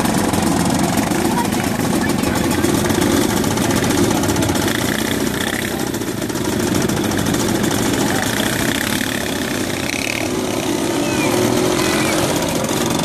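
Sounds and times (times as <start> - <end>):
scooter engines humming: 0.0 - 13.0.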